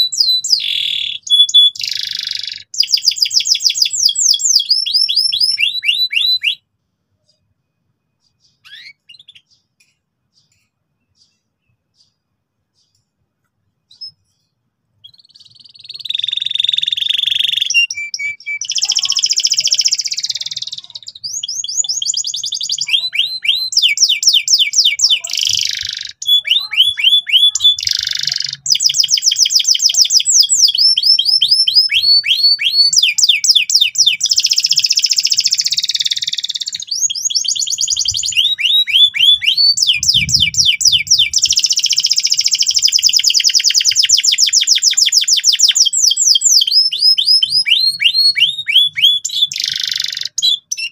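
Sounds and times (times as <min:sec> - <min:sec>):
canary singing: 0:00.0 - 0:13.2, 0:13.8 - 0:50.9.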